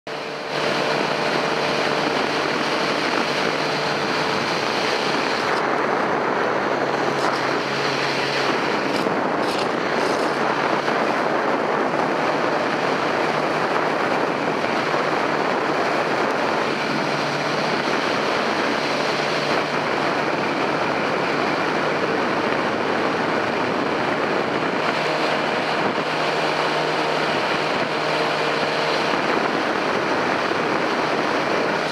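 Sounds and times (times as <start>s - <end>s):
motorcycle engine droning: 0.1s - 31.9s
wind and road noise: 0.1s - 31.9s.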